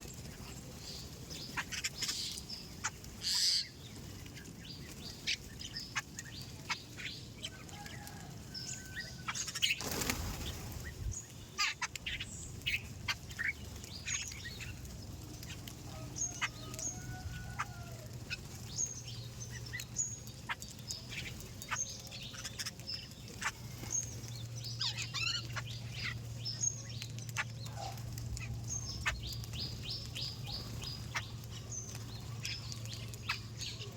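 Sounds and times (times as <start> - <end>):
small birds chirping and twittering: 0.0 - 33.9
wings flapping: 0.0 - 33.9.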